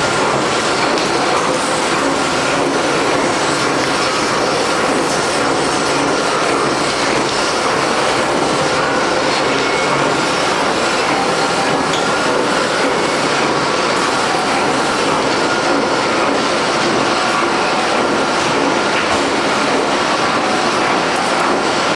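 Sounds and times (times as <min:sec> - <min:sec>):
boring machine cutting metal: 0:00.0 - 0:21.9.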